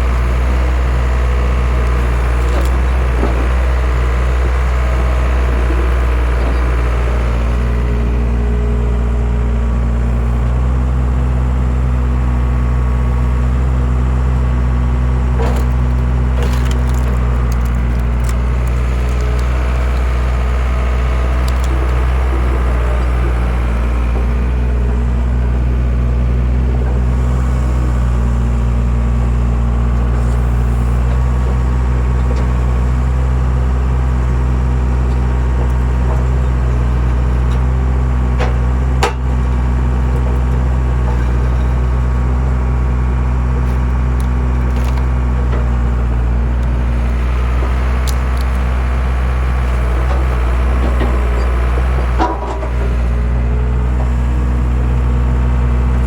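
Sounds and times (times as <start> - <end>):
engine running under load: 0.0 - 56.0.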